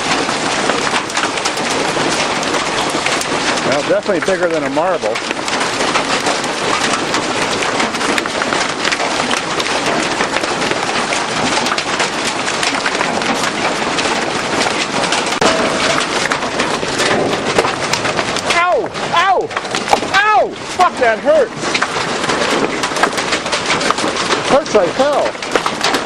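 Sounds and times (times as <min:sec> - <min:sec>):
constant hiss of hail: 0:00.0 - 0:26.0
hailstones clattering: 0:00.0 - 0:26.0.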